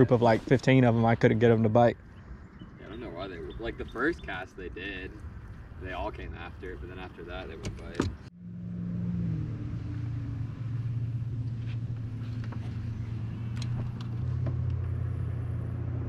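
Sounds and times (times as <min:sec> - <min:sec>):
boat motor humming: 0:00.0 - 0:05.8, 0:06.7 - 0:16.0.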